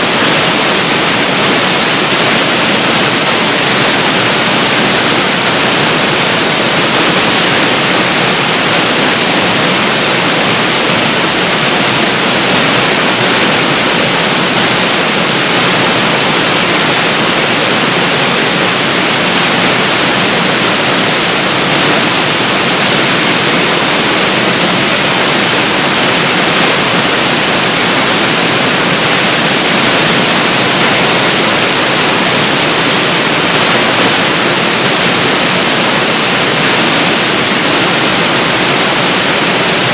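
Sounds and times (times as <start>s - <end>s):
waterfall splashing into pool: 0.0s - 39.9s.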